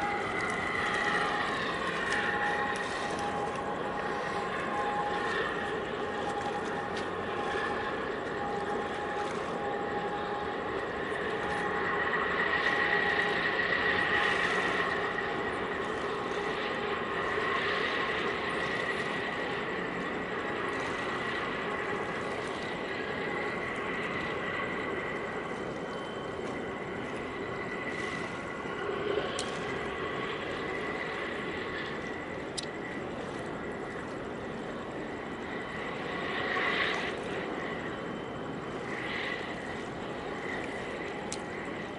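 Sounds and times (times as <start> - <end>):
high whining tones: 0.0 - 41.9
machinery hum: 0.0 - 41.9.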